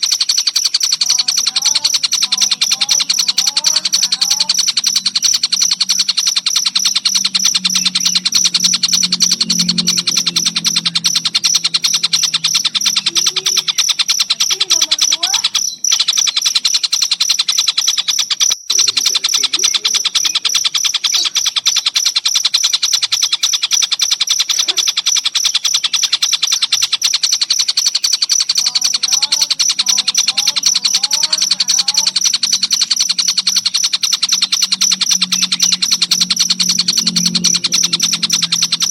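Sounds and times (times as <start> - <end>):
bird calls rising and falling: 0.0 - 38.9
cricket chirping: 0.0 - 38.9.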